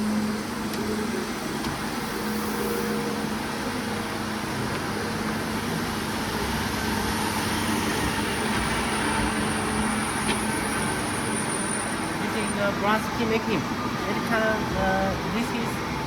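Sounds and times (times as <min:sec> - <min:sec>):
factory machinery running: 0:00.0 - 0:16.0
faint high whine: 0:00.0 - 0:16.0.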